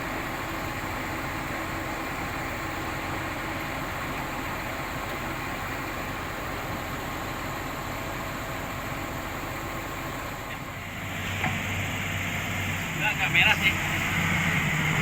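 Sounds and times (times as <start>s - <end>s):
bulldozer diesel engine drone: 0.0s - 15.0s.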